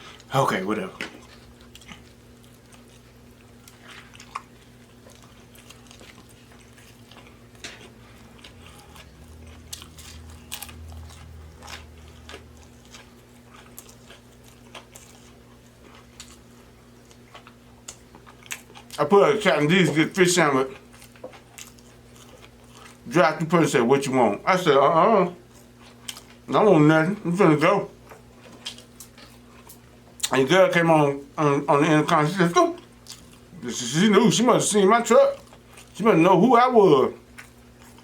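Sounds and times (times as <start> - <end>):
faint steady hum: 0.0 - 38.0
chewing and biting sandwich: 1.0 - 23.2, 25.4 - 26.5, 27.9 - 30.4, 32.1 - 36.0, 37.2 - 38.0.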